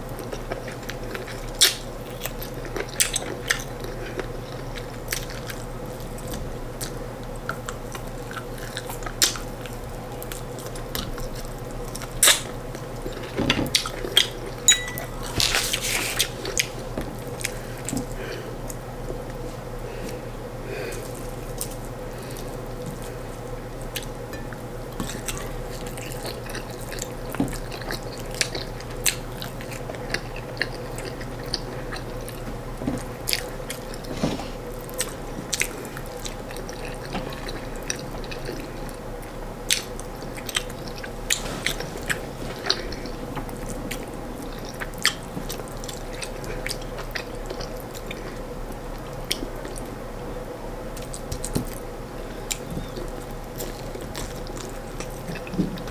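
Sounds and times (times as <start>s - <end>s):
chewing food: 0.0s - 55.9s
steady low hum: 0.0s - 55.9s.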